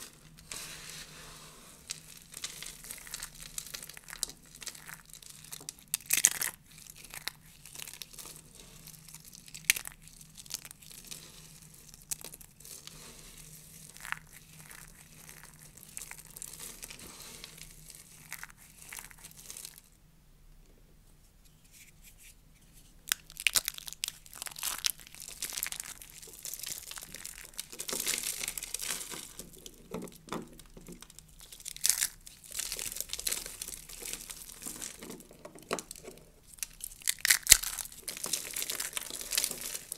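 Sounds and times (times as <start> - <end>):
hands crumbling dry soap shavings: 0.0 - 19.9, 23.0 - 39.9.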